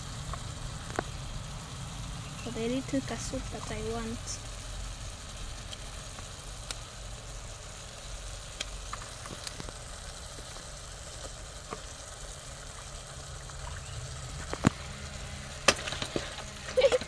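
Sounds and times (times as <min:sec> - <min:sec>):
food sizzling in a pot: 0:00.0 - 0:17.0
low steady rumble: 0:00.0 - 0:17.0.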